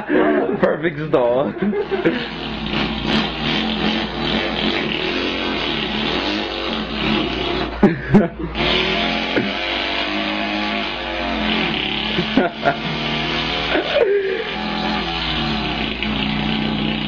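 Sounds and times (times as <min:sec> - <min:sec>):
man imitating an engine: 0:01.2 - 0:17.0.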